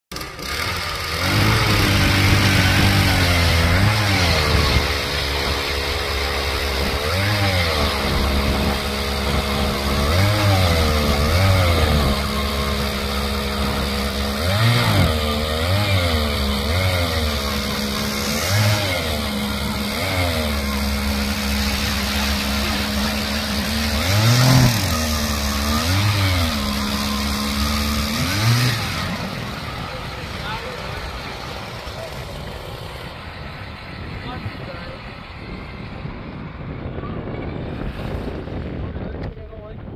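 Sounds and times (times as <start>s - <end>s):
blades grinding through ice: 0.1s - 35.0s
electric auger whirring: 0.1s - 39.0s
gas auger engine running hard: 0.1s - 39.0s.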